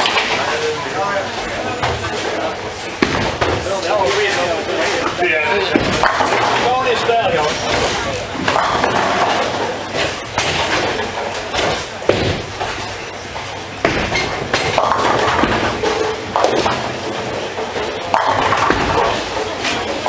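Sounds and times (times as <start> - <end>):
bowling balls knocking pins: 1.8 - 20.0.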